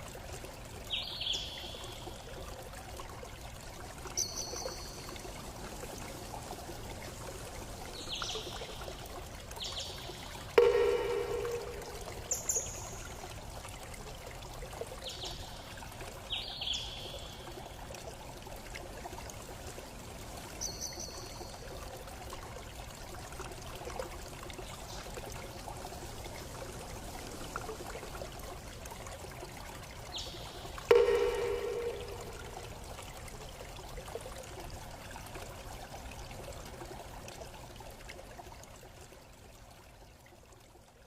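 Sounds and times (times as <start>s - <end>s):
trickling water: 0.0s - 41.0s.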